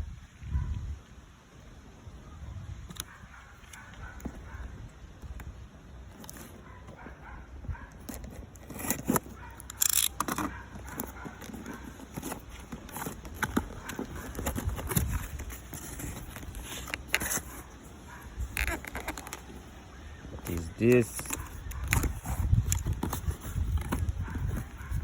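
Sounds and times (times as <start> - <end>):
packaging clicks and crinkling: 2.9 - 25.0.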